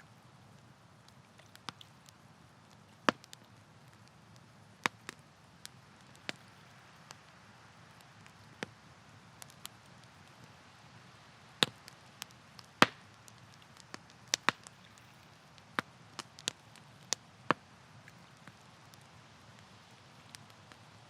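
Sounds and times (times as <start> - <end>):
campfire crackling: 0.0 - 21.0
faint steady hiss: 0.0 - 21.0.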